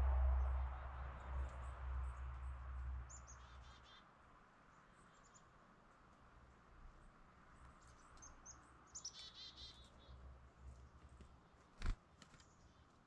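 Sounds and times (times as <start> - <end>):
small birds chirping: 0.5 - 13.0.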